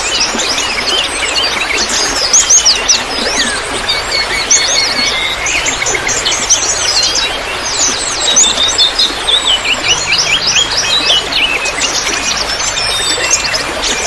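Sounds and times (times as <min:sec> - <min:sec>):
small birds chirping: 0:00.0 - 0:14.0
water trickling: 0:00.0 - 0:14.0.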